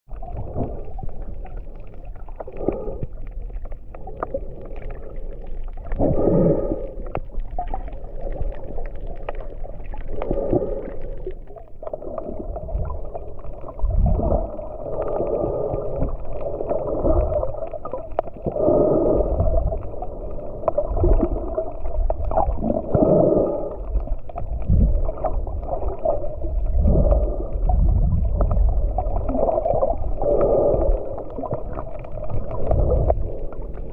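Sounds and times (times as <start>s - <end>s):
gurgling exhaled bubbles: 0.1s - 33.9s
steady low rumble: 0.1s - 33.9s.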